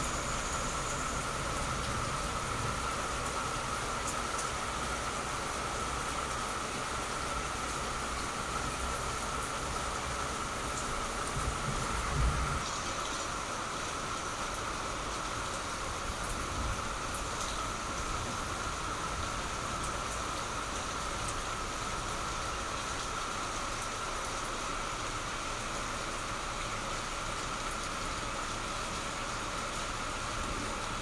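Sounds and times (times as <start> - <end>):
rain on a tiled roof: 0.0 - 31.0.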